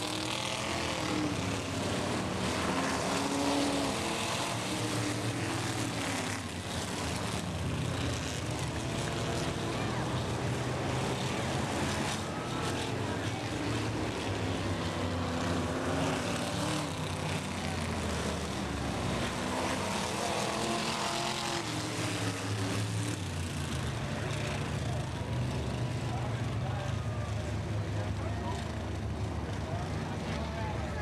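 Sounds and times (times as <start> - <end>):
race cars passing at speed: 0.0 - 31.0.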